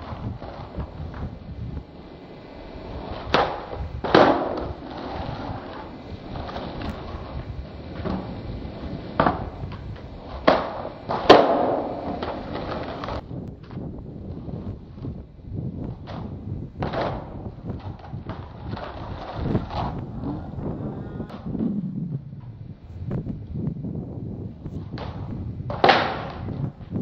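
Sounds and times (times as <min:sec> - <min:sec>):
skateboard clacking on asphalt: 0:00.0 - 0:27.0
wind rumble on microphone: 0:00.0 - 0:27.0.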